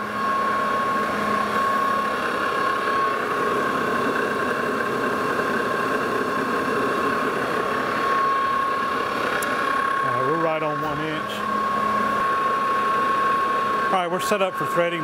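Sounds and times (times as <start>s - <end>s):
machine motor whining: 0.0s - 15.0s.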